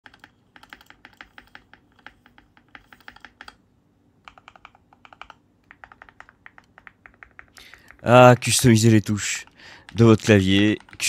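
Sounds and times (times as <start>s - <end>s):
mechanical keyboard typing: 0.0s - 3.6s, 4.2s - 11.0s.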